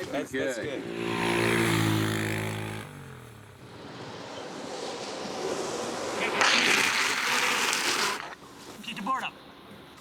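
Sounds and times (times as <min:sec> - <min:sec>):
vehicle engine: 0:00.0 - 0:08.3
road and wind noise: 0:00.0 - 0:10.0.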